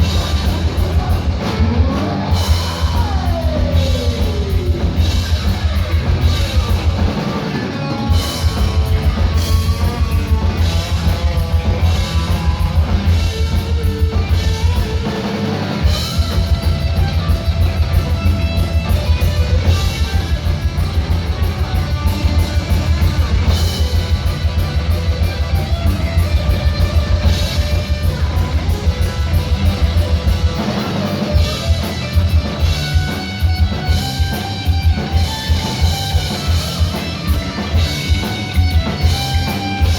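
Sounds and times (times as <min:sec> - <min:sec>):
distorted electric guitar: 0:00.0 - 0:39.9
rapid low drum beat: 0:00.0 - 0:39.9.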